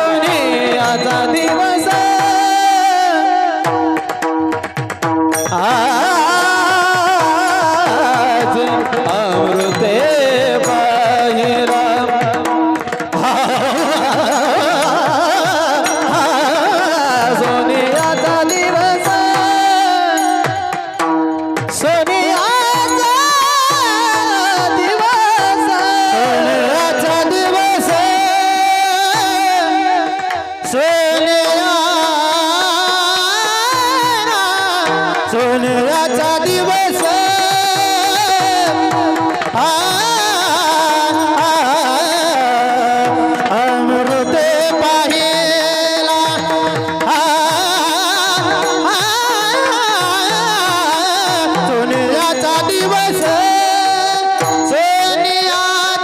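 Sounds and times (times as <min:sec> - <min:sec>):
male voice singing ornamented melody: 0:00.0 - 0:04.8, 0:05.4 - 0:56.0
pakhawaj drum strokes: 0:00.0 - 0:56.0.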